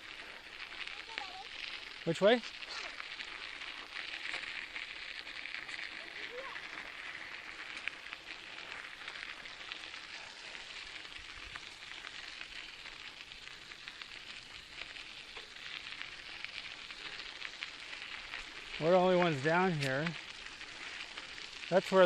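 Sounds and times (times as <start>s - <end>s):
bicycle tyres rolling on dirt: 0.0s - 22.0s.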